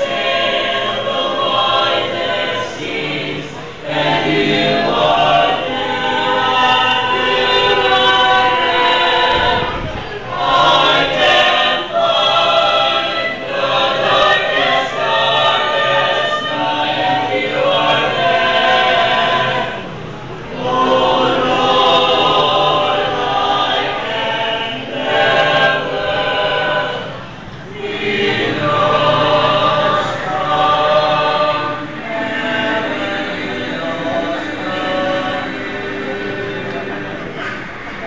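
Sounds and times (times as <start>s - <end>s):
group singing a hymn: 0.0s - 38.0s.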